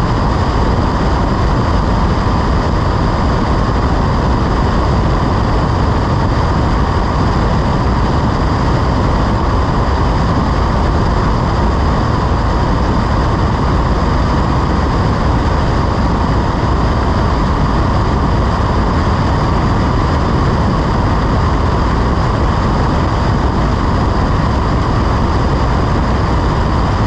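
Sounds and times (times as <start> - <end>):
propeller airplane engine: 0.0 - 27.0.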